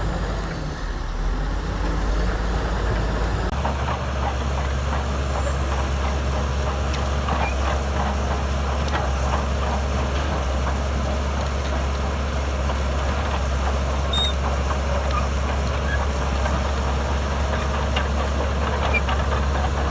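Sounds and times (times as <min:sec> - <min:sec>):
heavy diesel machinery drone: 0:00.0 - 0:19.9.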